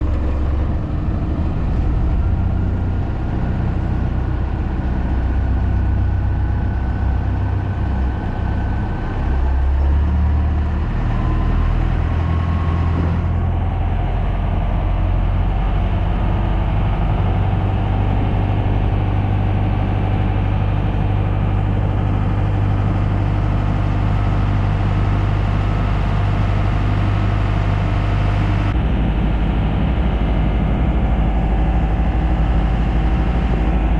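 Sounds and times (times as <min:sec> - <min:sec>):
boat engine humming: 0:00.0 - 0:33.9.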